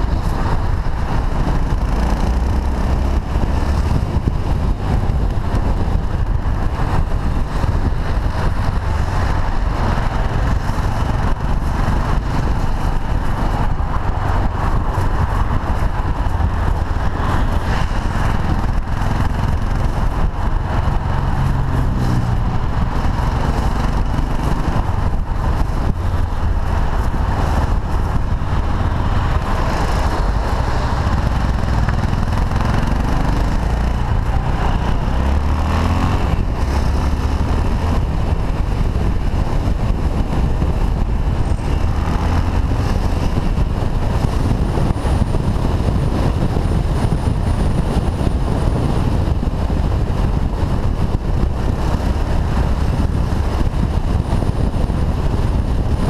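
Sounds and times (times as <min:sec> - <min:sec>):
motorcycle engine running: 0:00.0 - 0:56.0
wind rumbling on microphone: 0:00.0 - 0:56.0.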